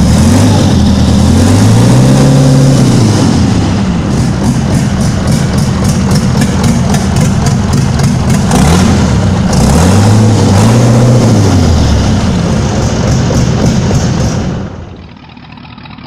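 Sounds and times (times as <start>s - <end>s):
engine revving: 0.0s - 16.0s.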